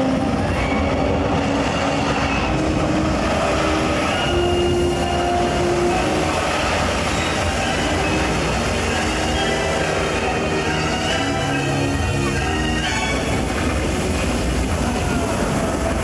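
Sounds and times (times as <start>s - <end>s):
metallic squeals: 0.0s - 13.8s
heavy machinery rumbling: 0.0s - 16.0s.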